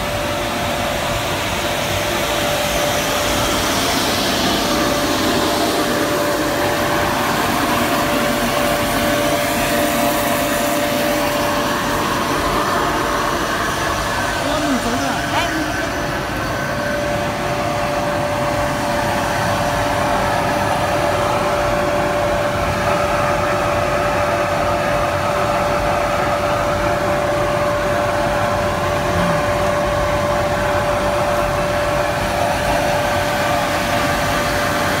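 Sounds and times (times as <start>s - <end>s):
granulator machine whirring: 0.0s - 35.0s.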